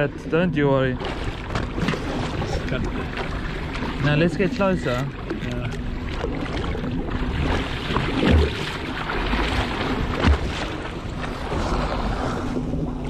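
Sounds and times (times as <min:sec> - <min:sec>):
water noise: 0:00.0 - 0:13.0.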